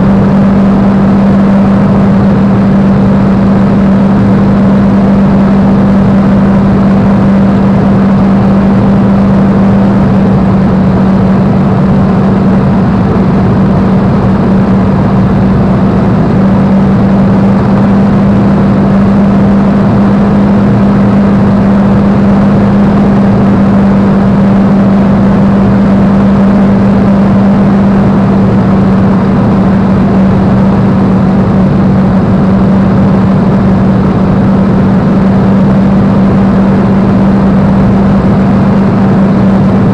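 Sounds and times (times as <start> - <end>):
aircraft piston engine drone: 0.0 - 39.9.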